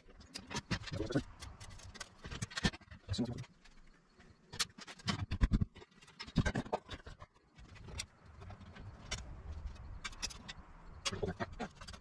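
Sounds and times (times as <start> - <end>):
clicks and knocks of plastic panels: 0.0 - 12.0.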